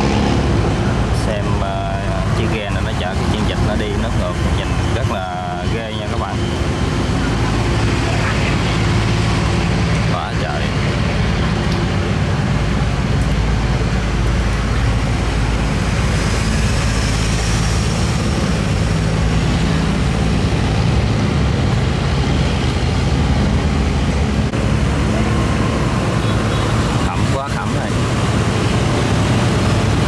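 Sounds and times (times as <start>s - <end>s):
boat engine droning: 0.0s - 30.0s
water rushing: 0.0s - 30.0s
wind: 0.0s - 30.0s.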